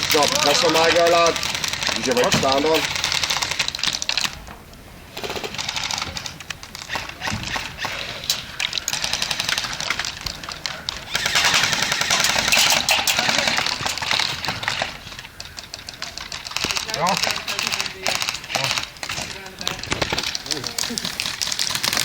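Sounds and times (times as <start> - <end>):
airsoft guns firing bursts: 0.0 - 4.4, 5.1 - 22.0.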